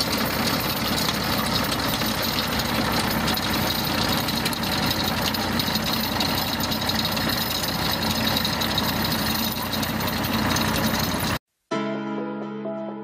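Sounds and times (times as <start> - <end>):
tractor engine running: 0.0 - 11.4.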